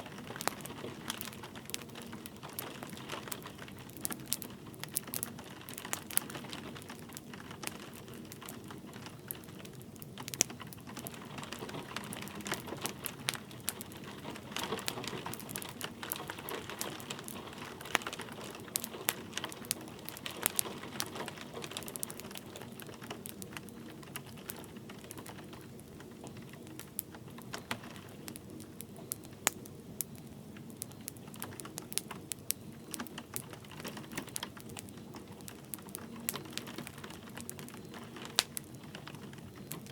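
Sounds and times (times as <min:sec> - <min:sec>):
light rain hiss: 0:00.0 - 0:39.9
wood fire crackling and popping: 0:00.0 - 0:39.9.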